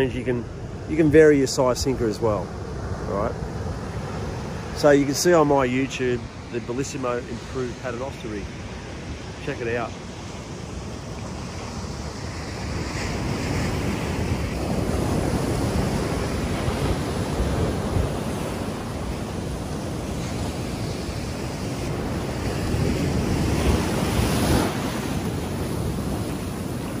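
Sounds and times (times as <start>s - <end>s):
ocean waves breaking: 0.0s - 27.0s
wind buffeting microphone: 2.8s - 27.0s.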